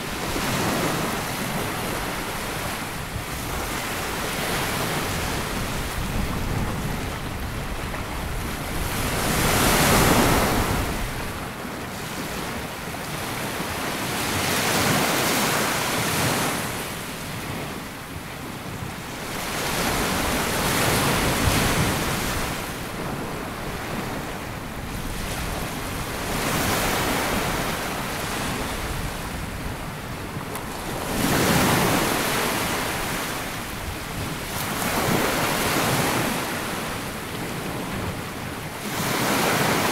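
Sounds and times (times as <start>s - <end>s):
sea waves breaking on beach: 0.0s - 39.9s
wind rumble on microphone: 0.0s - 39.9s.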